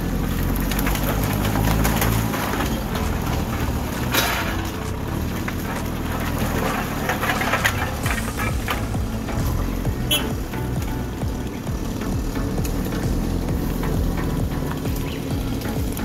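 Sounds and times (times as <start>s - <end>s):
branches and boards cracking: 0.0s - 16.0s
diesel engine working under load: 0.0s - 16.0s.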